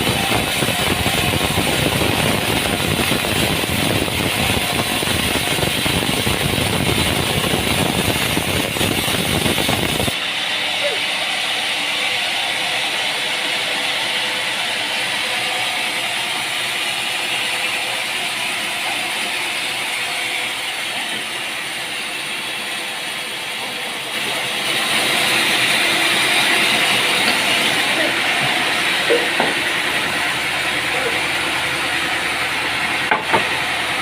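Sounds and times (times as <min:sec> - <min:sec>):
mechanical running noise: 0:00.0 - 0:34.0.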